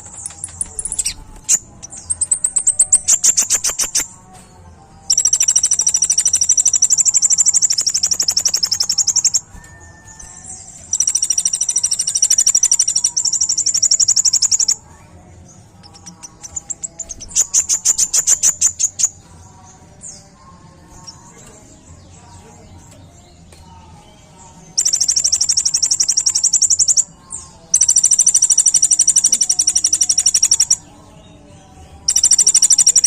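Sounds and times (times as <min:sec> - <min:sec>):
sunbird high-pitched trills: 0:00.0 - 0:04.2, 0:05.1 - 0:15.0, 0:15.8 - 0:19.2, 0:20.0 - 0:33.0.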